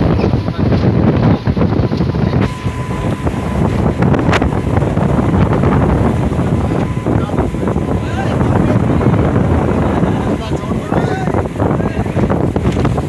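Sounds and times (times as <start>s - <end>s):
rushing water: 0.0s - 13.0s
speedboat engine running: 0.0s - 13.0s
wind buffeting microphone: 0.0s - 13.0s.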